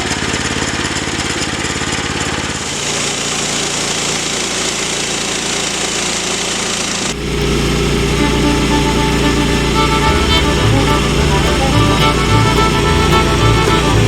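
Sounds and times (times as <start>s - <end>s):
small gasoline engine running: 0.0s - 14.0s.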